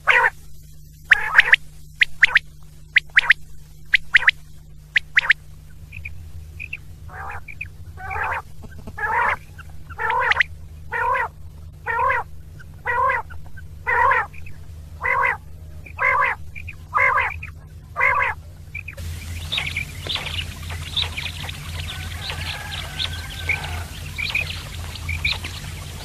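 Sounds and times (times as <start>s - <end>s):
quail calling: 0.0s - 0.4s, 1.1s - 2.4s, 4.0s - 26.0s
steady low hum: 0.0s - 26.0s.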